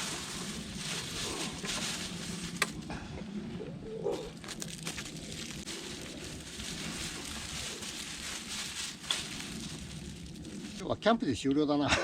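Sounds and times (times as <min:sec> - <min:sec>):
campfire crackling: 0:00.0 - 0:10.8.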